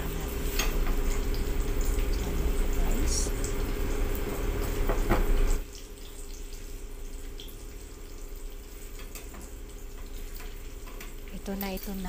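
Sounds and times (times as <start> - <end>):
omelette sizzling in oil: 0.0 - 12.0.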